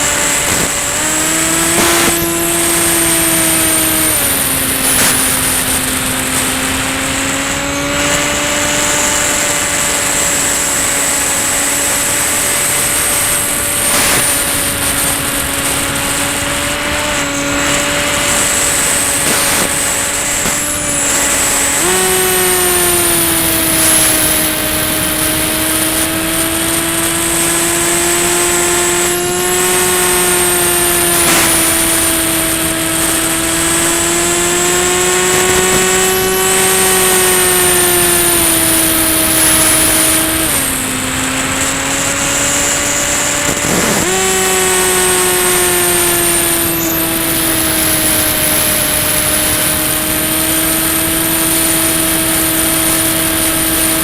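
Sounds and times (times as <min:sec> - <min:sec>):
electric motor and propeller whine: 0:00.0 - 0:54.0.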